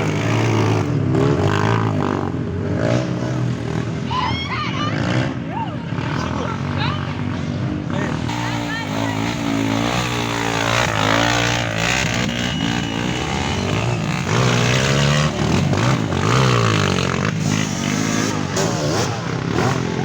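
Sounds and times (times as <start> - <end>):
trail motorcycles revving: 0.0 - 20.0.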